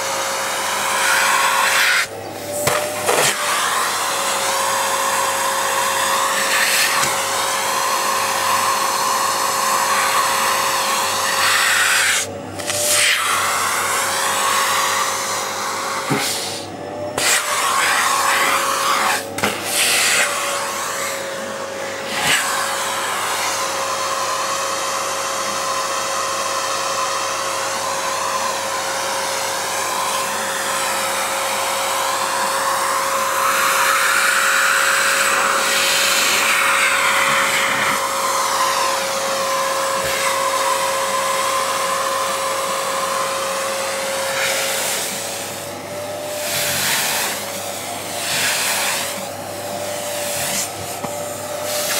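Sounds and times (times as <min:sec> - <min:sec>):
vacuum cleaner whining: 0:00.0 - 0:51.9.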